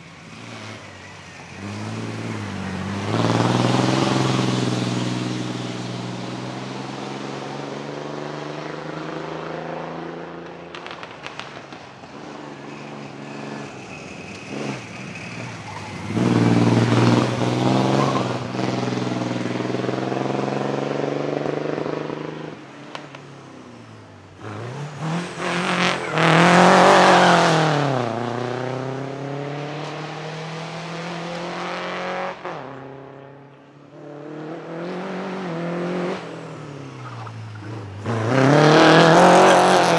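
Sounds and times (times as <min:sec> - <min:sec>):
racing car engines revving: 0:00.0 - 0:39.9.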